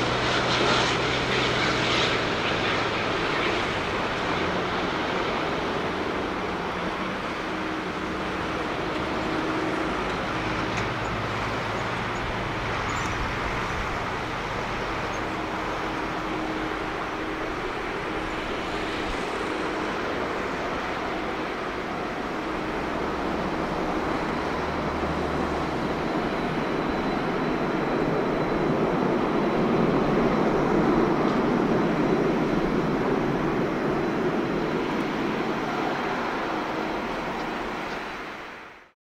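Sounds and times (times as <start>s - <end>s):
distant jet engines rushing: 0.0s - 39.0s.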